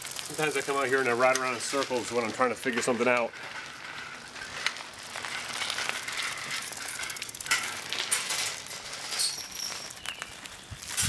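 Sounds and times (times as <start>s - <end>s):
bike clinking and ticking: 0.0s - 10.6s
tyres hissing on asphalt: 0.0s - 11.0s.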